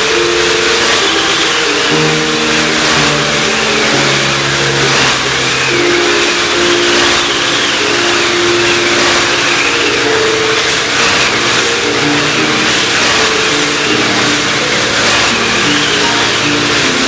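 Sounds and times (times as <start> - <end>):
hand-cranked wind and rain machine: 0.0 - 17.0
held musical notes: 0.0 - 17.0.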